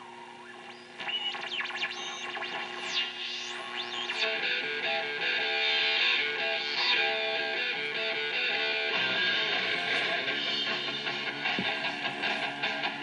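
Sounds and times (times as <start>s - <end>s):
strummed electric guitar music: 0.0s - 13.0s.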